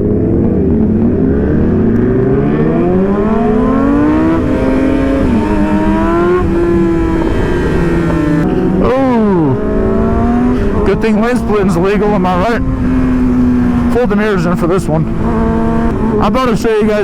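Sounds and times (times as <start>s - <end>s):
motorcycle engine accelerating: 0.0s - 17.0s
wind rush: 0.0s - 17.0s.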